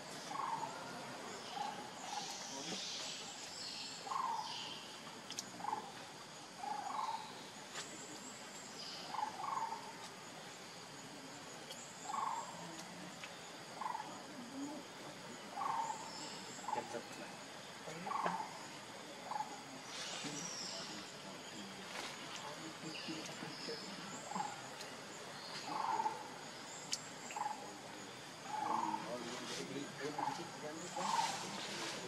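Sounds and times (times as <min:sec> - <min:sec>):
high-pitched insect drone: 0:00.1 - 0:32.0.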